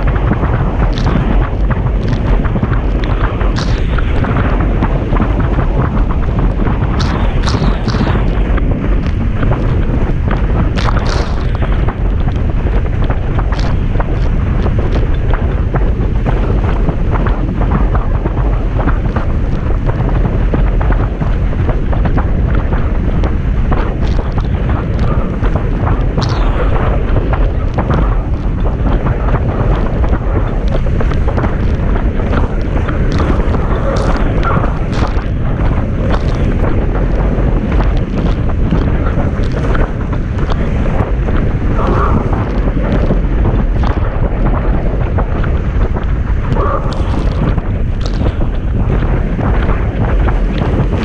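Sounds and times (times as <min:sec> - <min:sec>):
water rushing under hull: 0:00.0 - 0:51.0
wind buffeting microphone: 0:00.0 - 0:51.0.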